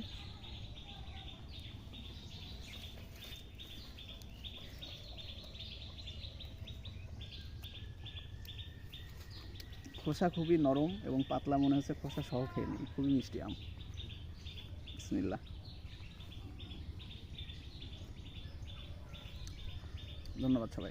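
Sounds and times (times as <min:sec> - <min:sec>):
faint bird chirping: 0:00.0 - 0:20.9
quiet outdoor background noise: 0:00.0 - 0:20.9.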